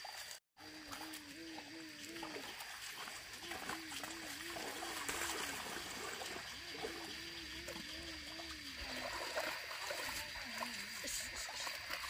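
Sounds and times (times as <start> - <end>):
water and mud splashing: 0.0 - 12.0.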